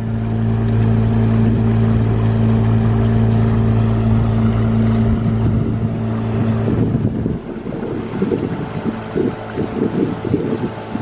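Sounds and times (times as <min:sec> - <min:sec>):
motorboat engine drone: 0:00.0 - 0:11.0
water noise: 0:00.0 - 0:11.0
rushing wind: 0:01.2 - 0:11.0.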